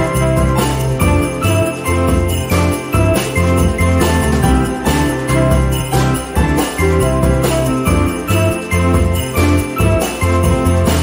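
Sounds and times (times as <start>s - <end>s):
upbeat music with jingling bells: 0.0s - 11.0s.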